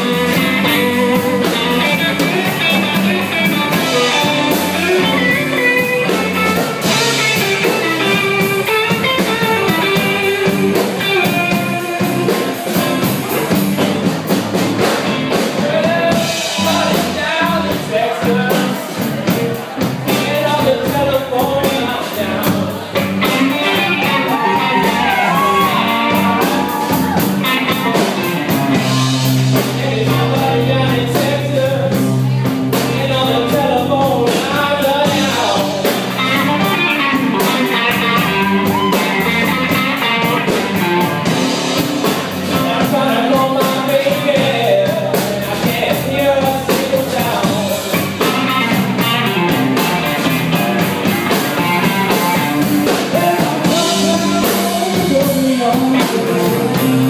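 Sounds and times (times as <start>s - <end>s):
drum kit: 0.0s - 57.0s
electric guitars: 0.0s - 57.0s
man singing: 0.0s - 57.0s.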